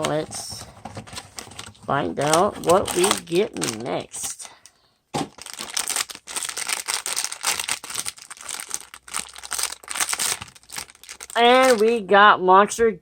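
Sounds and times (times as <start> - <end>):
foil packaging crinkling and tearing: 0.0 - 4.6, 5.2 - 12.0.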